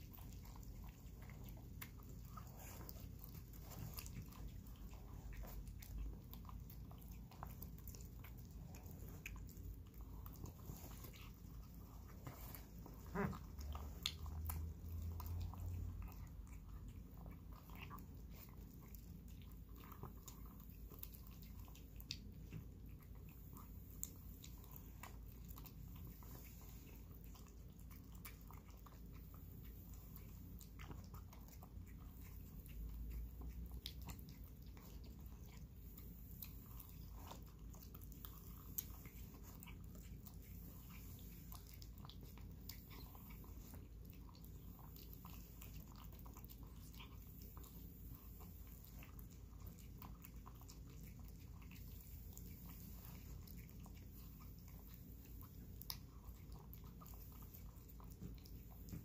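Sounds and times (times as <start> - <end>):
cat chewing and lapping: 0.0 - 59.0.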